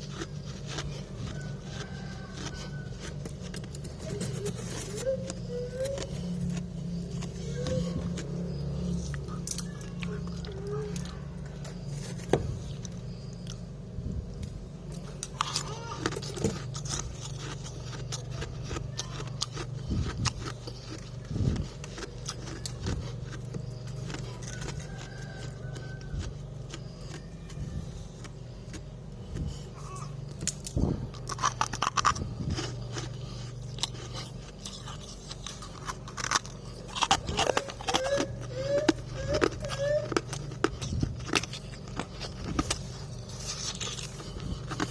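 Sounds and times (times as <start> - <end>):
frost crunching and scraping: 0.0 - 13.8, 14.4 - 44.9
low hum: 0.0 - 44.9.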